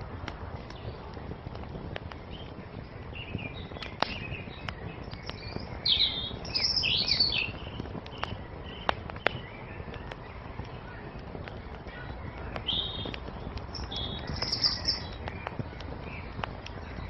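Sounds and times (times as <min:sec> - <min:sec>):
low steady rush: 0:00.0 - 0:17.0
songbirds chirping: 0:00.0 - 0:17.0
wood fire crackling and popping: 0:00.0 - 0:17.0.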